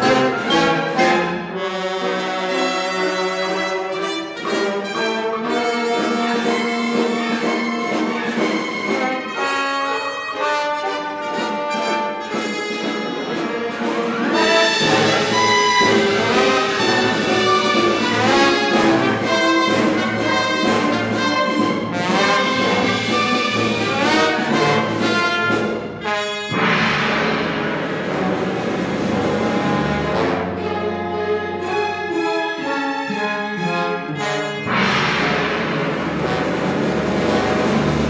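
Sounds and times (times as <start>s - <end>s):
symphony orchestra with brass: 0.0s - 38.0s.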